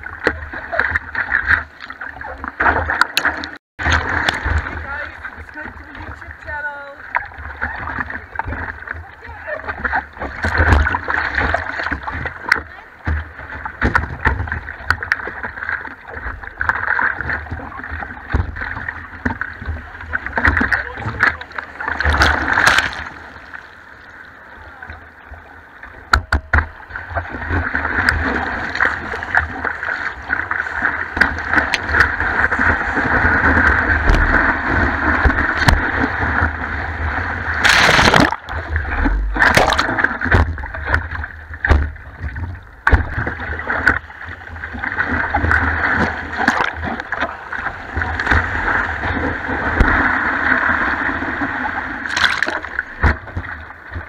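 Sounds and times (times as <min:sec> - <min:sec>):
water splashing against camera: 0:00.0 - 0:23.8, 0:25.9 - 0:54.0.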